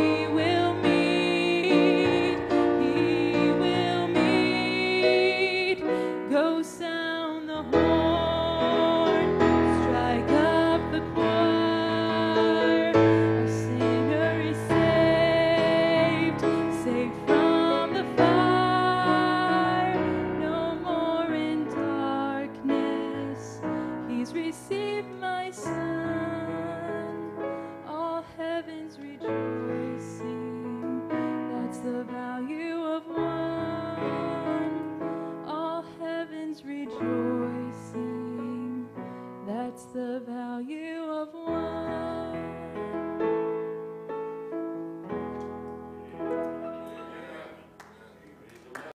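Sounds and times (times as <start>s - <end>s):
woman singing gospel with vibrato: 0.0s - 27.2s, 27.9s - 34.8s, 35.4s - 43.0s
keyboard piano playing: 0.0s - 39.7s, 41.4s - 48.5s.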